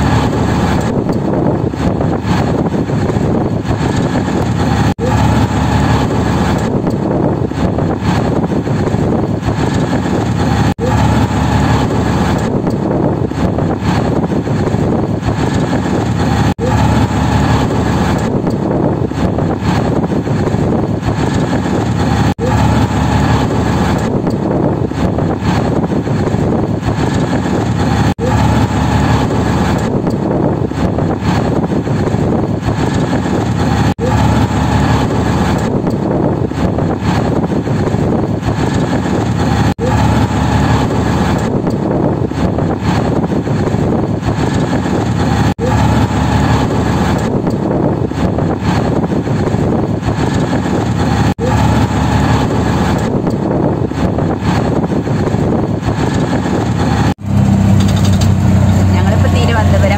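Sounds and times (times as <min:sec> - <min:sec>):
auto-rickshaw engine and road drone: 0:00.0 - 0:59.9.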